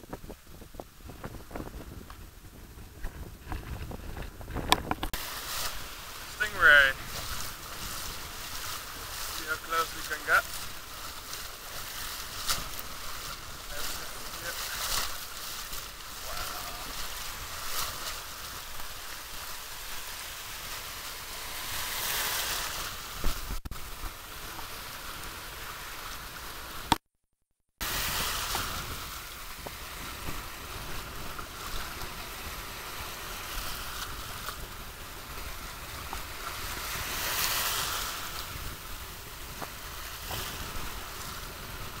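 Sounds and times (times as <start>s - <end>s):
wind on microphone: 0.0s - 25.5s, 27.8s - 42.0s
small waves: 0.0s - 27.0s, 27.8s - 42.0s
water lapping at shoreline: 0.1s - 26.9s, 27.8s - 42.0s.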